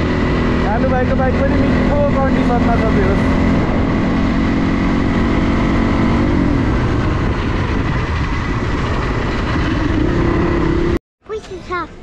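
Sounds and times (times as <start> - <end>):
dirt bike engine running: 0.0 - 11.0
wind buffeting on microphone: 0.0 - 11.0.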